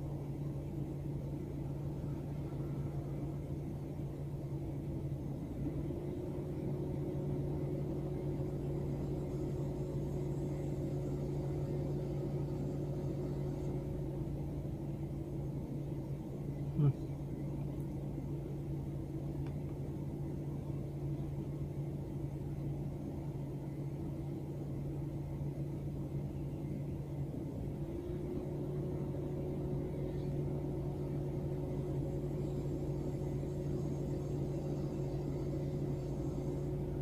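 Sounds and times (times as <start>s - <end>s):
car engine idling hum: 0.0s - 37.0s.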